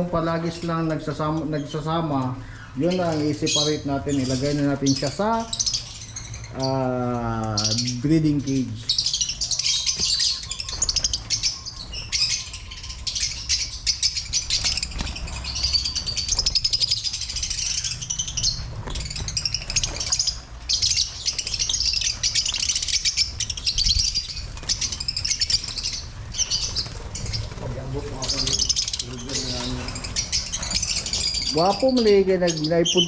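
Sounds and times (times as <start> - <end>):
flock of birds chirping: 0.0 - 33.0.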